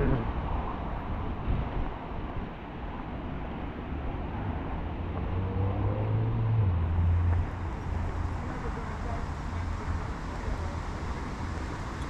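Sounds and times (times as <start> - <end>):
road traffic: 0.0 - 12.0
vehicle engine hum passing: 0.0 - 12.0.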